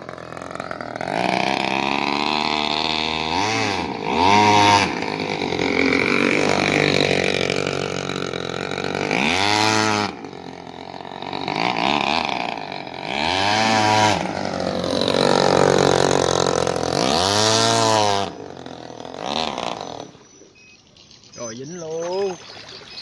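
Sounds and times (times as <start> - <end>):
two-stroke engine revving: 0.0 - 21.2.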